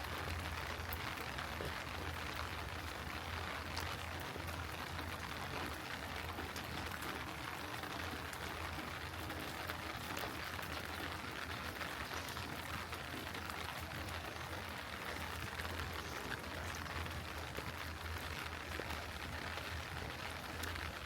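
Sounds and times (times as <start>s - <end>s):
heavy rainfall: 0.0s - 21.0s.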